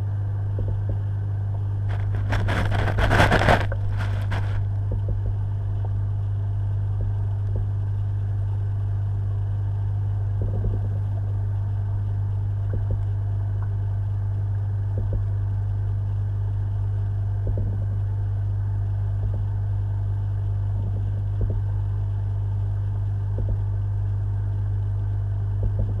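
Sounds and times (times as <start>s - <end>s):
aquarium equipment humming: 0.0s - 26.0s.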